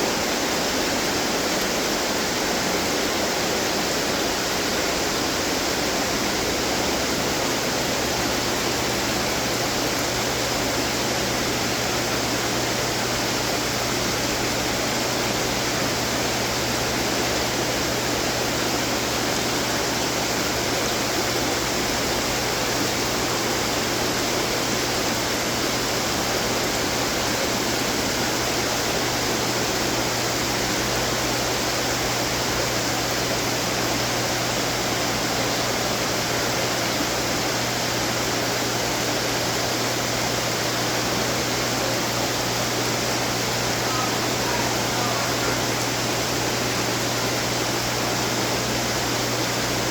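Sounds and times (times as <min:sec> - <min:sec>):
fountain water splashing: 0:00.0 - 0:49.9.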